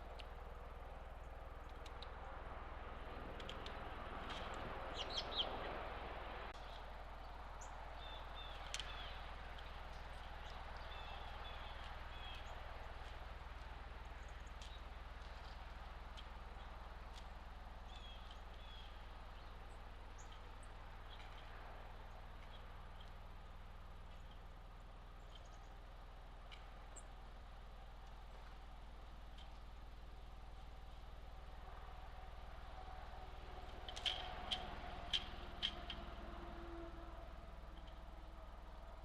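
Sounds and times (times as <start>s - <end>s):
small birds chirping: 3.4s - 5.8s, 6.5s - 36.6s.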